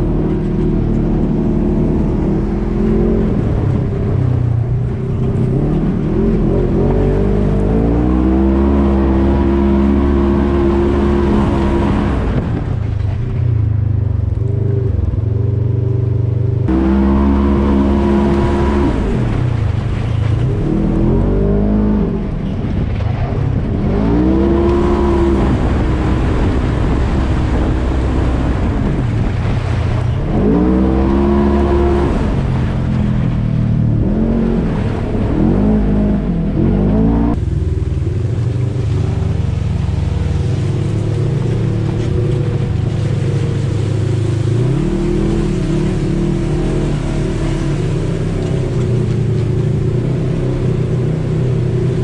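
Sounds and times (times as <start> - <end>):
off-road vehicle engine revving: 0.0 - 52.0.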